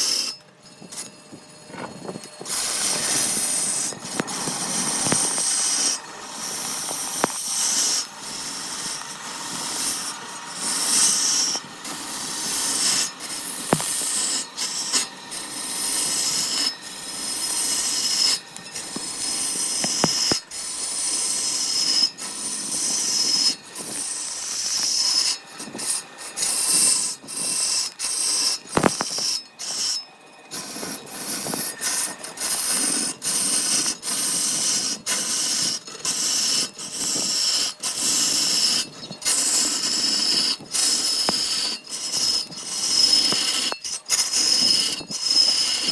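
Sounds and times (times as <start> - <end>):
rasping strokes on wood: 0.0 - 45.9.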